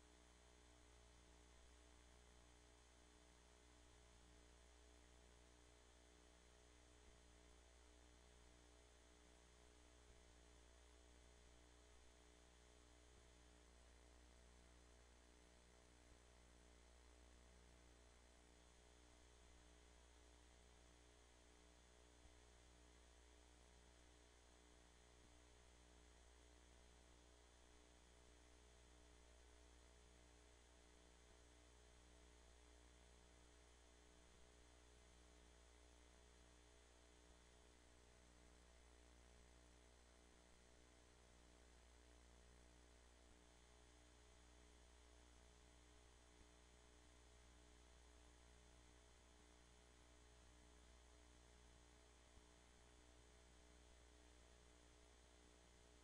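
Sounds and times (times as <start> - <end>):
low electrical hum with hiss: 0.0 - 56.0.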